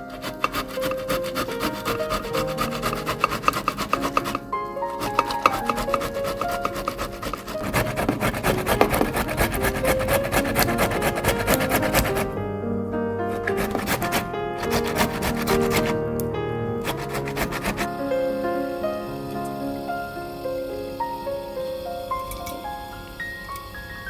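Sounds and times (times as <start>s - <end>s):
food grated on metal grater: 0.0s - 12.4s, 13.3s - 16.0s, 16.8s - 21.2s.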